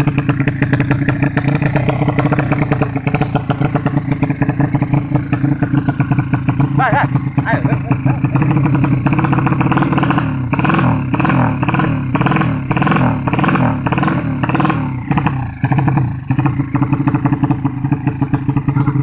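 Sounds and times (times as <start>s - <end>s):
engine running with throttle blips: 0.0s - 19.0s.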